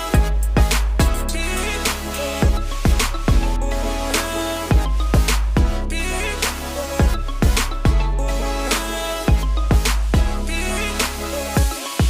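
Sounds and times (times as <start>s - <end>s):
hip hop music with drum beat: 0.0s - 12.0s.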